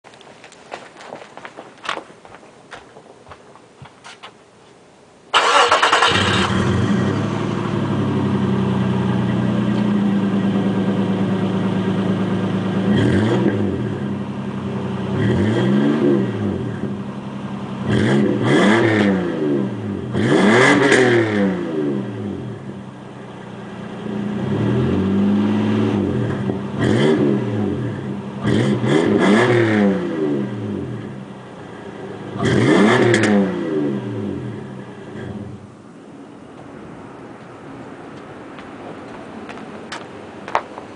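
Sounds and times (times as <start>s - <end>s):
car engine idling and revving: 5.4s - 40.9s.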